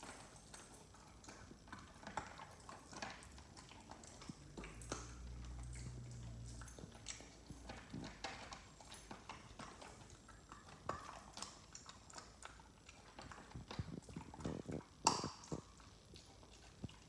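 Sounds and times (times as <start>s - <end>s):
dog chewing on toy: 0.0s - 17.0s.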